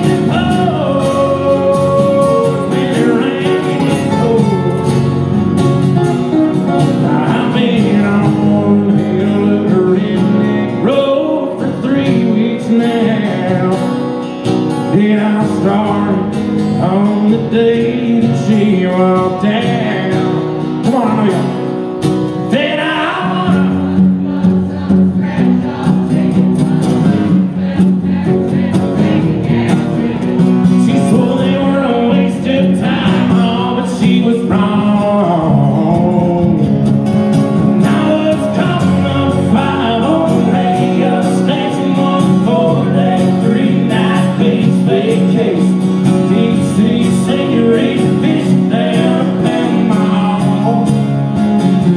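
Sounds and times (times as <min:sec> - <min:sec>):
man singing: 0:00.0 - 0:05.5, 0:06.2 - 0:21.8, 0:22.4 - 0:36.9, 0:37.7 - 0:51.9
acoustic guitars strumming: 0:00.0 - 0:51.9.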